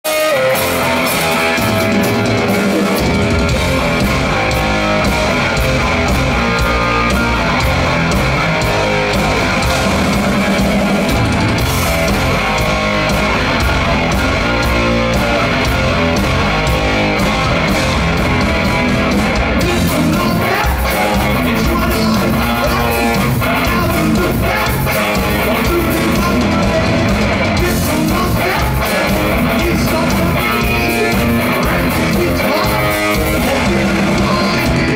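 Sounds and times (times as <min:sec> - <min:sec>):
heavy metal band playing live: 0:00.0 - 0:34.9.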